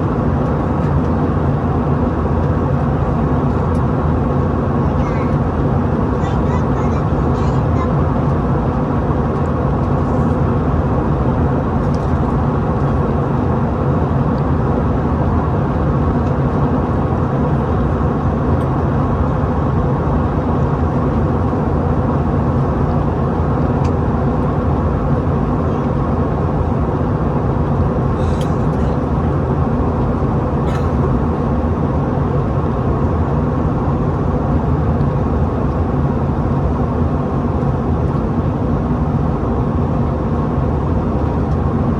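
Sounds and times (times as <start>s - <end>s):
jet engine hum: 0.0s - 41.9s.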